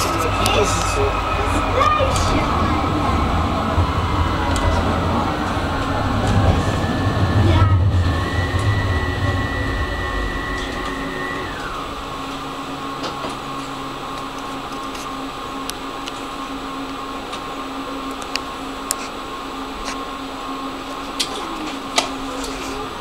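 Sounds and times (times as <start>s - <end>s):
electrical hum: 0.0s - 23.0s
tram motor whine: 0.0s - 23.0s
tram running rumble: 0.0s - 23.0s.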